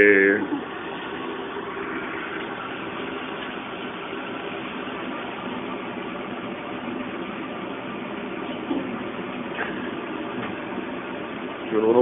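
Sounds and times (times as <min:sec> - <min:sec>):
furnace roaring: 0:00.0 - 0:12.0.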